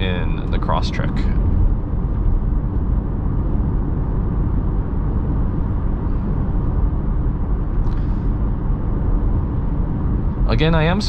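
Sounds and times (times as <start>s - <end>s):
car engine: 0.0s - 11.0s
tyres rumbling on road: 0.0s - 11.0s.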